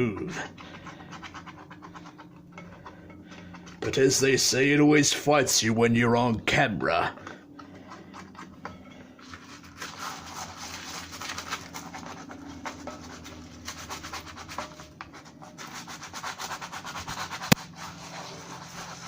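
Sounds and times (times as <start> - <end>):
scrubbing on plastic: 0.0 - 5.2, 7.3 - 19.0.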